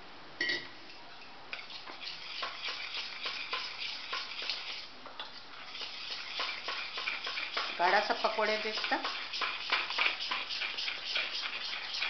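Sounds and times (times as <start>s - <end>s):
spoon stirring in metal bowl: 1.5s - 4.9s, 5.6s - 12.0s.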